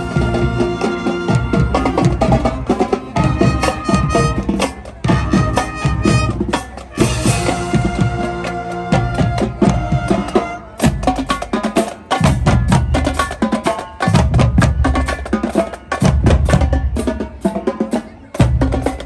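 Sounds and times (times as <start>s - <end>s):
music with percussion beat: 0.0s - 19.0s.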